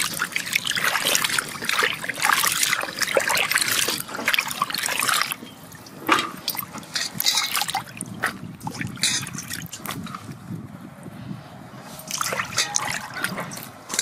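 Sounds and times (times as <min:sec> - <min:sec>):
water dripping: 0:00.0 - 0:10.0, 0:12.0 - 0:14.0
water sloshing in basin: 0:00.0 - 0:10.4, 0:11.8 - 0:14.0.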